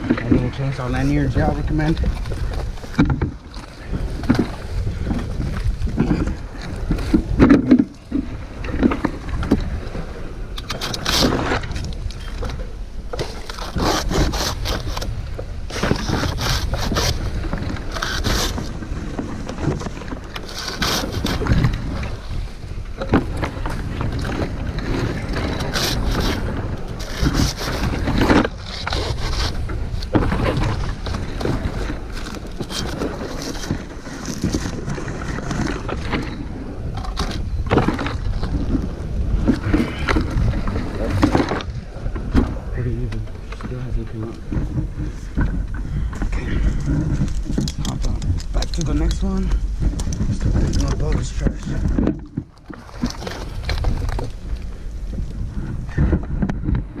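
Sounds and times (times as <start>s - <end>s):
rustling and scraping: 0.0s - 57.0s
wind buffeting microphone: 0.0s - 57.0s.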